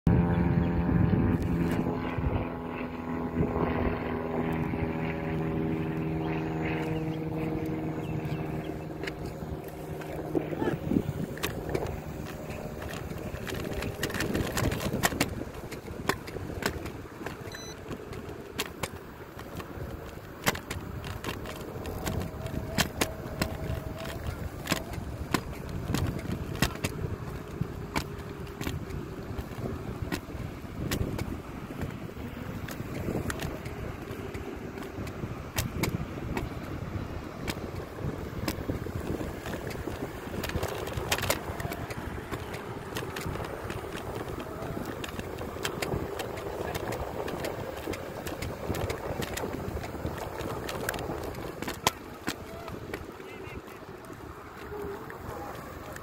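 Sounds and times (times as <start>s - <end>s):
steady engine drone: 0.1s - 56.0s
wind rumble on microphone: 0.1s - 56.0s
wheels clicking over pavement seams: 2.8s - 56.0s.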